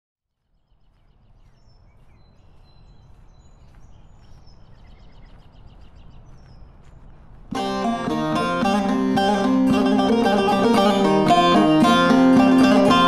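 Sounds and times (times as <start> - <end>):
small birds chirping: 0.4 - 13.0.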